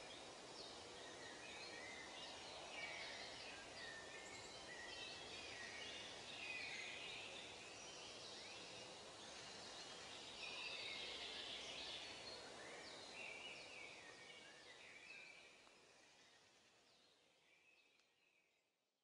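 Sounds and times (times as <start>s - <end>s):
soft background hiss: 0.0s - 18.6s.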